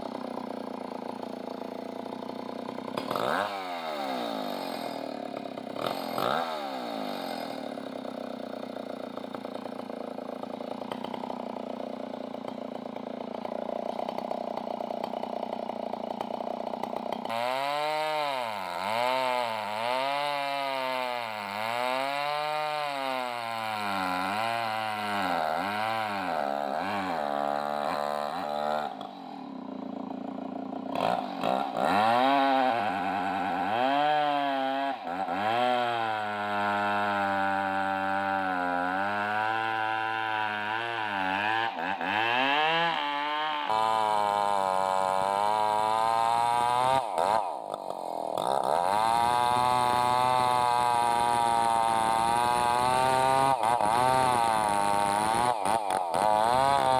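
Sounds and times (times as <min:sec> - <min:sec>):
chainsaw cutting logs: 0:00.0 - 0:56.9.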